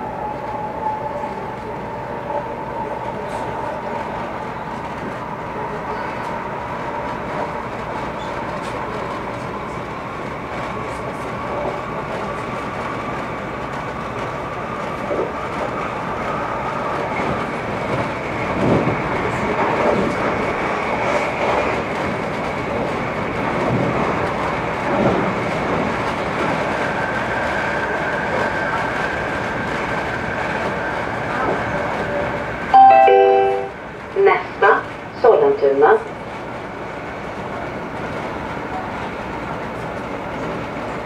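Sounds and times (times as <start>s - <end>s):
train rolling rumble with whine: 0.0s - 41.0s.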